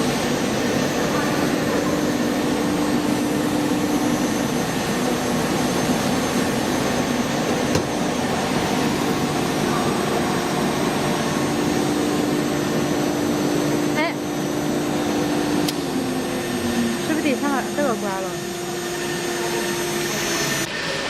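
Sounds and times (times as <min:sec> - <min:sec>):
router machine whirring: 0:00.0 - 0:21.0
steady hum: 0:00.0 - 0:21.0.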